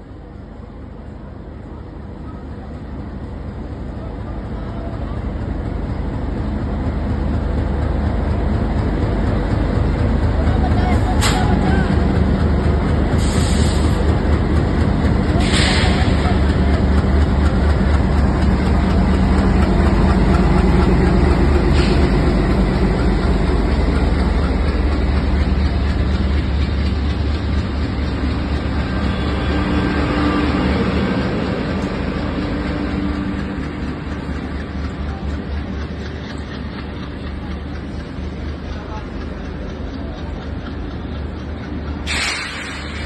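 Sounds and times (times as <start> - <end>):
locomotive engine droning: 0.0 - 43.0
train rolling past rumble: 0.0 - 43.0.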